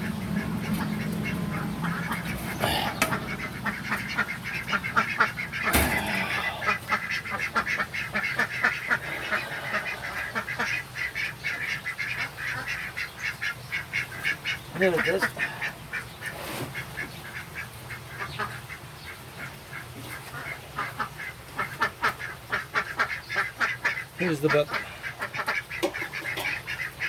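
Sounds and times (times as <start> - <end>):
ducks quacking: 0.0 - 27.0.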